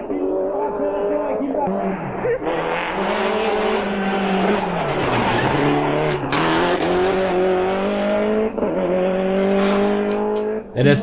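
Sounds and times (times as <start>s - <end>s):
gear change: 0.0s - 11.0s
rally car engine revving: 0.0s - 11.0s.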